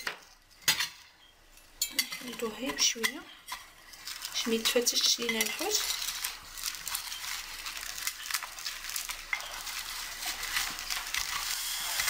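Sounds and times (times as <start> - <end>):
metal spatula scraping salt crust: 1.9 - 12.0.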